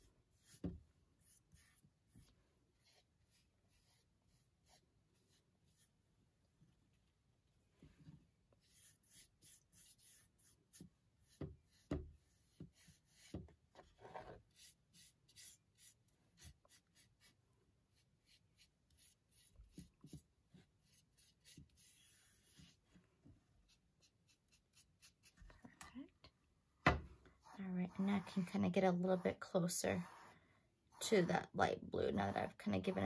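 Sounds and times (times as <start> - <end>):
paintbrush scratching on canvas: 0.0 - 6.0, 8.6 - 13.4, 14.0 - 22.9, 23.6 - 25.5, 27.4 - 33.0.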